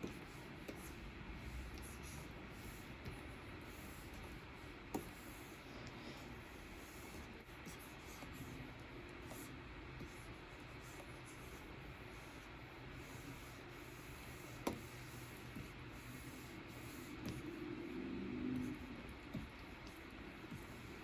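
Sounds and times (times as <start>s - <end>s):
pen stylus scratching on screen: 0.0s - 21.0s.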